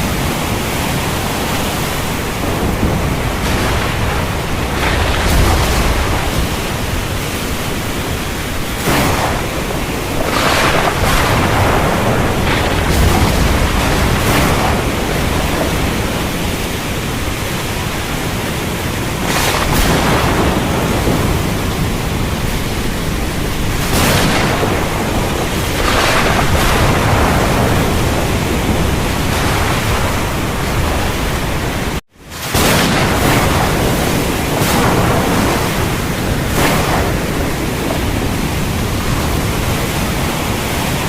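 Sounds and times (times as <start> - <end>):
low thunder rumble: 0.0 - 41.0.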